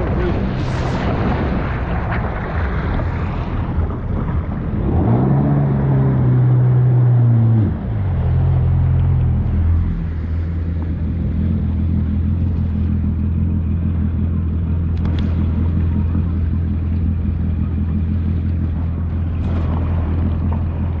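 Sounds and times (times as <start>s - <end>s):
engine humming steadily: 0.0s - 21.0s.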